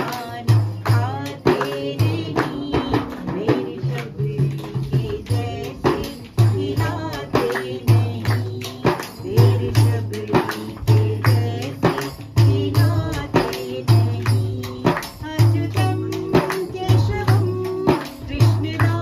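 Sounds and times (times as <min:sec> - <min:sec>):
frame drum beating: 0:00.0 - 0:19.0
woman singing: 0:00.0 - 0:19.0.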